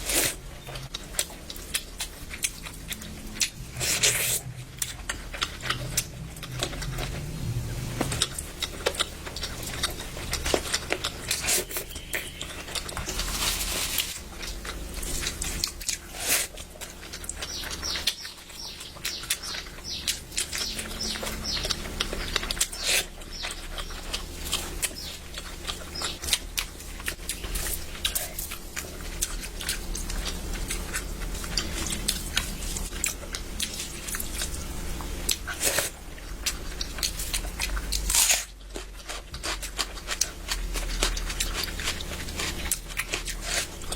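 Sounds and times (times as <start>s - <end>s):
person chewing and smacking: 0.0s - 7.4s, 8.0s - 13.5s, 14.2s - 43.9s.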